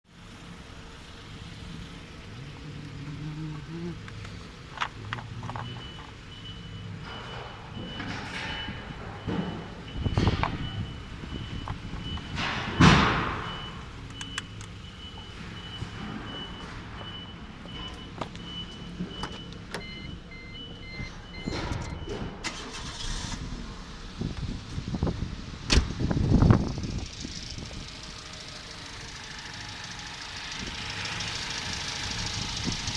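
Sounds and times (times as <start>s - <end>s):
car engine running: 0.1s - 17.0s, 22.4s - 32.9s.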